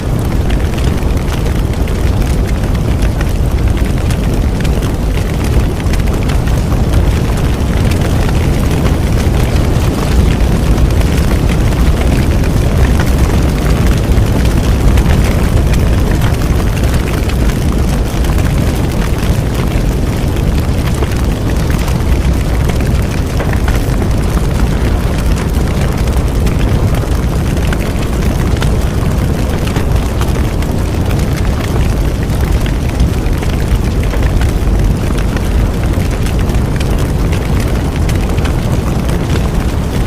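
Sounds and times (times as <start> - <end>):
bonfire flames roaring: 0.0 - 40.0
wood crackling and popping: 0.0 - 40.0.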